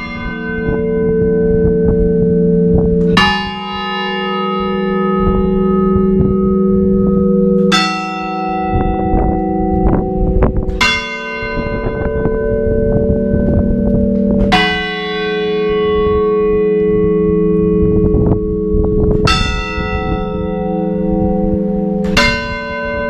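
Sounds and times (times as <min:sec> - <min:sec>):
large church bell tolling: 0:00.0 - 0:23.0.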